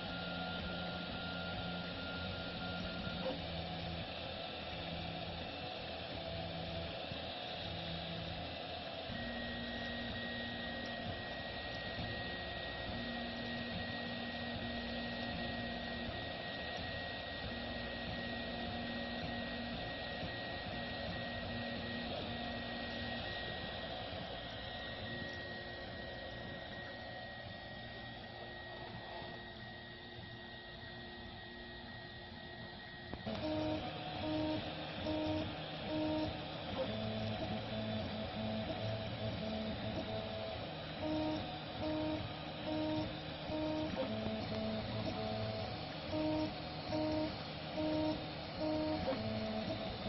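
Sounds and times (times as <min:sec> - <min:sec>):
steady mechanical noise: 0:00.0 - 0:50.0
stepper motors humming: 0:00.0 - 0:50.0.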